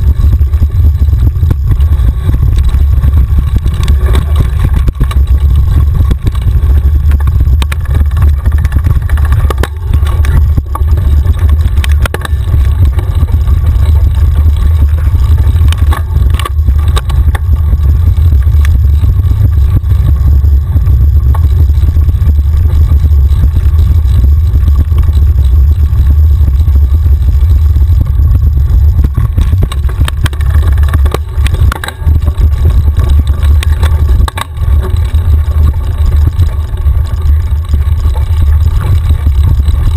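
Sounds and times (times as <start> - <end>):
bike rattling over stones: 0.0 - 39.9
tyres running over dirt: 0.0 - 39.9
wind buffeting camera: 0.0 - 39.9.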